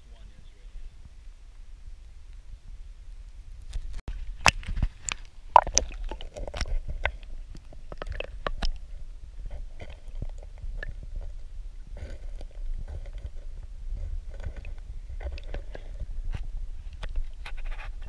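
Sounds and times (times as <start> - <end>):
muffled underwater river rumble: 0.0 - 17.5.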